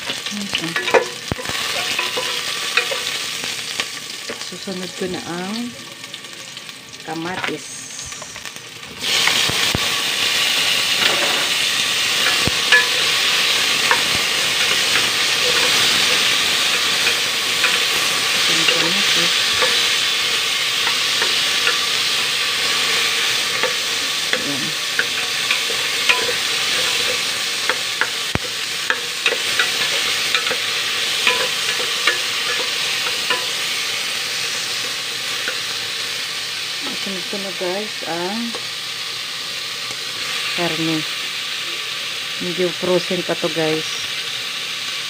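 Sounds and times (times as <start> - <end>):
vegetables sizzling in a pot: 0.0 - 45.0.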